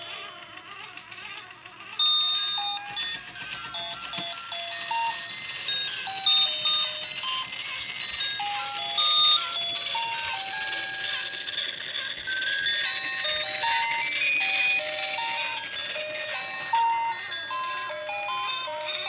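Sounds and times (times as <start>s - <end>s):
tinny electronic toy melody: 0.0s - 19.0s.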